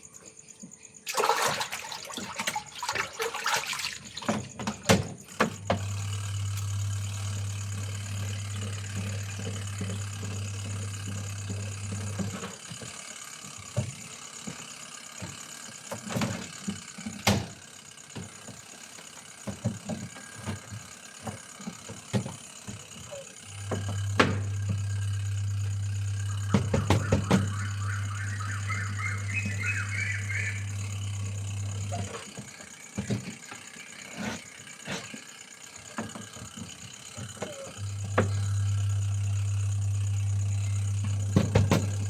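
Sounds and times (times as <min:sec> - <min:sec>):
insects trilling: 0:00.0 - 0:42.0
low machine hum: 0:00.0 - 0:42.0.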